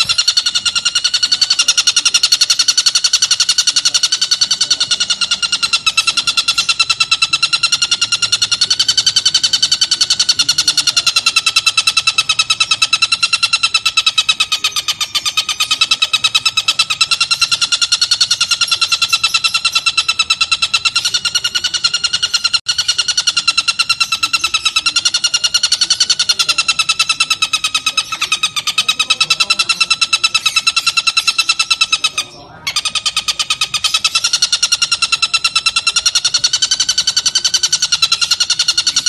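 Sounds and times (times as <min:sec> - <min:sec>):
bird chattering call: 0:00.0 - 0:39.0.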